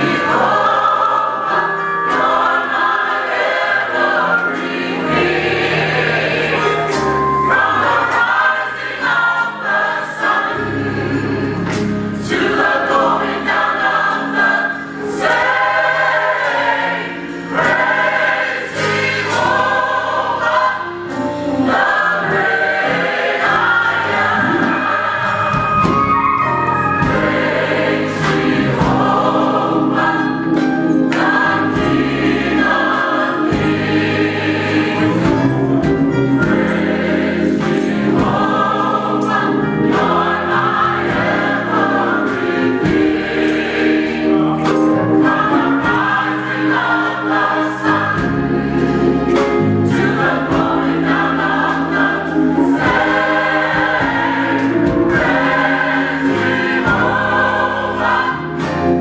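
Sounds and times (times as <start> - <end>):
gospel choir singing: 0.0 - 59.0.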